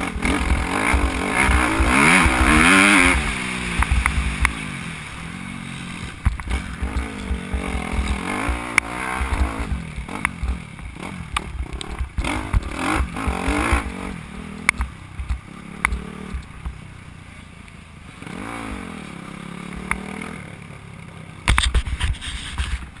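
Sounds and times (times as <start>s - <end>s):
motocross bike engine revving: 0.0s - 17.2s, 18.1s - 20.8s.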